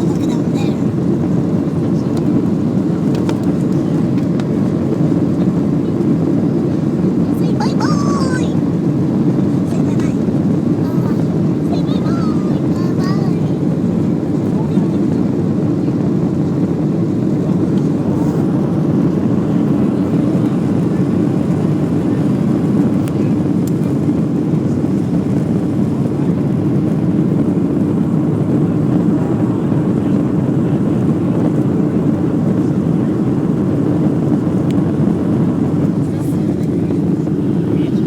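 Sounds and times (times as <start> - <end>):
airliner engines droning: 0.0 - 38.0.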